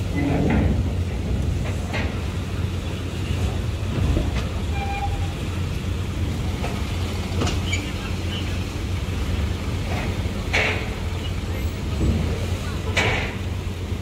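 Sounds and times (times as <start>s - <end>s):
vehicle engines rumbling: 0.0s - 14.0s.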